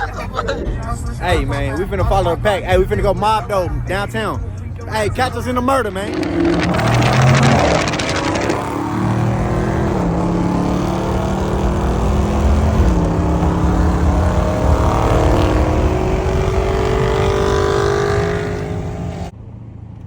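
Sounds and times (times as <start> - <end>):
car engine accelerating: 0.0 - 19.3.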